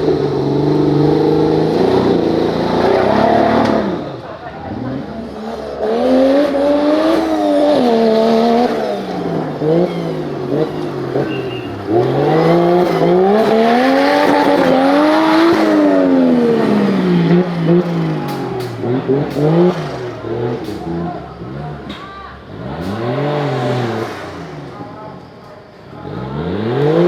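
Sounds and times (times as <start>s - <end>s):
vehicle engine revving hard: 0.0s - 27.0s.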